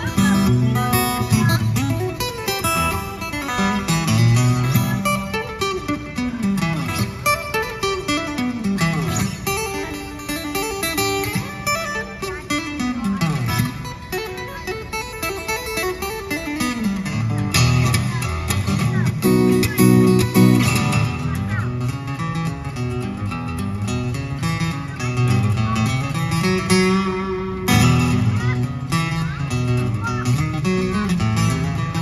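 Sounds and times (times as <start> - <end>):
acoustic guitar blues: 0.0 - 32.0.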